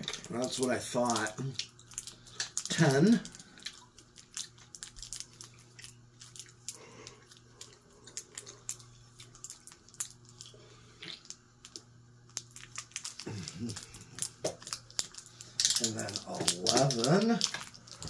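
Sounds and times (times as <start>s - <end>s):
ceiling fan motor humming: 0.0s - 18.0s
small clicks and crackles: 0.0s - 18.0s.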